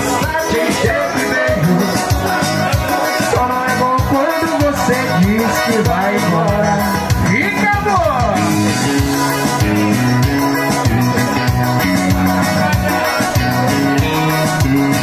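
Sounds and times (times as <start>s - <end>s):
live band playing amplified music: 0.0s - 15.0s.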